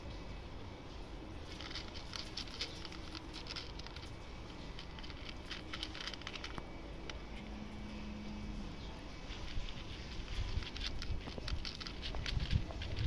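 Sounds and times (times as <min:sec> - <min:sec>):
kitten crunching dry food: 0:01.0 - 0:13.0.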